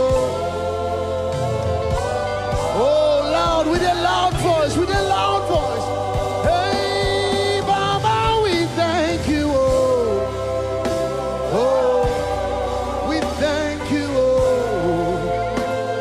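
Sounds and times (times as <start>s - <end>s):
band playing held chords: 0.0s - 16.0s
voices singing: 0.0s - 16.0s.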